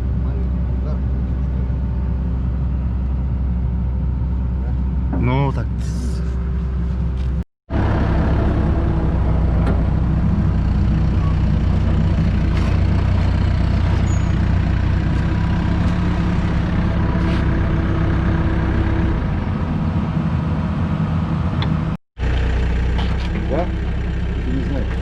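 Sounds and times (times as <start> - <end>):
heavy machine engine running: 0.0 - 25.0.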